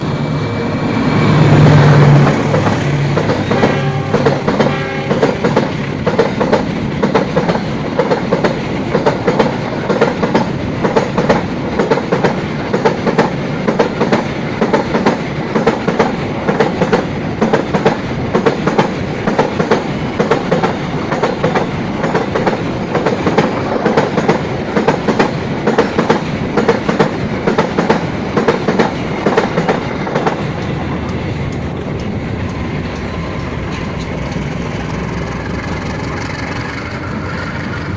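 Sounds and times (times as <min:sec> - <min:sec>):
train wheels clattering on rails: 0:01.6 - 0:37.9.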